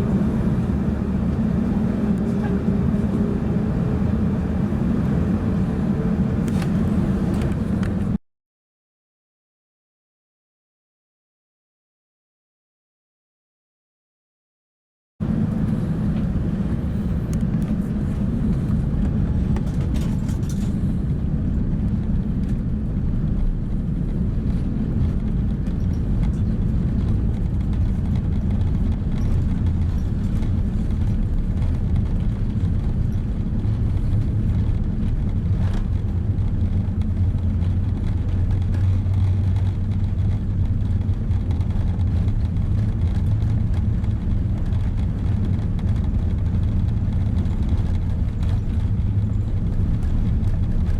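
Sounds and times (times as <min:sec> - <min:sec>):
airplane cabin engine rumble: 0:00.0 - 0:08.2, 0:15.2 - 0:50.9.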